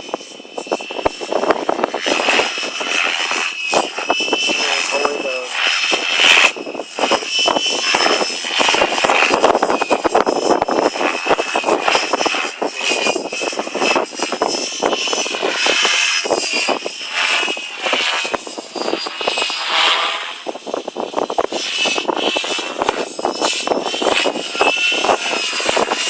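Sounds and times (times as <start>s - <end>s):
rc helicopter rotor whine: 0.0s - 26.0s
wind buffeting microphone: 0.0s - 26.0s.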